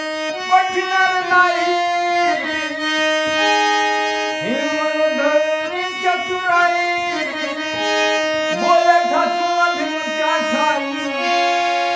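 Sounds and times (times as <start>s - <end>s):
harmonium playing a melody: 0.0s - 11.9s.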